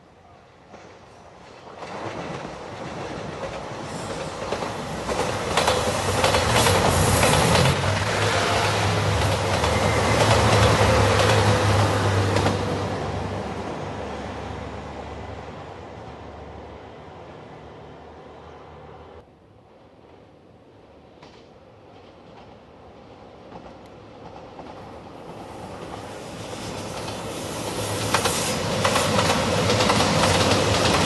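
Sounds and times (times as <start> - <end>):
diesel train passing: 0.0 - 31.0.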